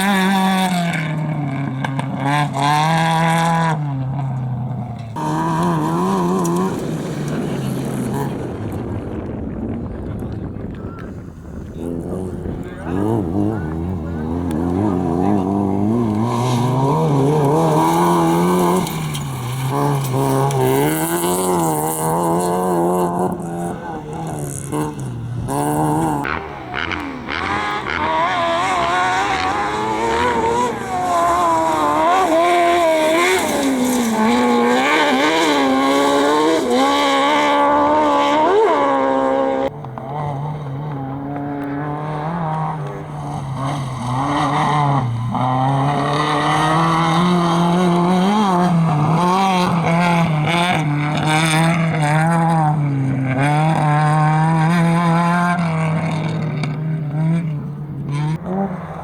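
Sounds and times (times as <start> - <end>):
engines revving hard: 0.0 - 59.0.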